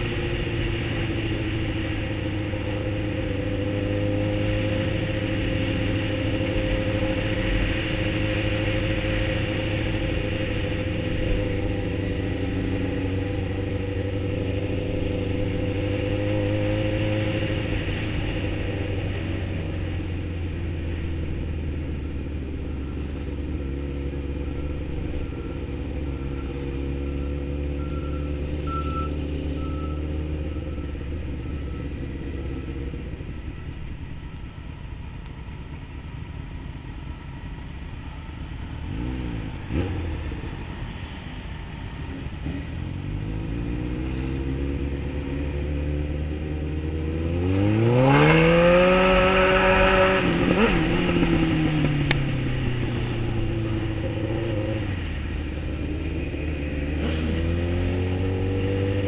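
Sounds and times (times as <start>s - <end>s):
motorcycle engine revving: 0.0s - 34.4s, 38.8s - 41.2s, 42.0s - 59.0s.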